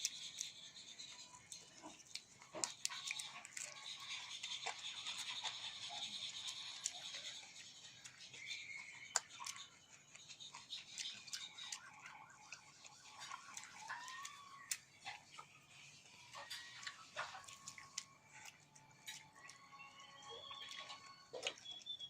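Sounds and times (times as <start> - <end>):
chewing noises: 0.0 - 22.0.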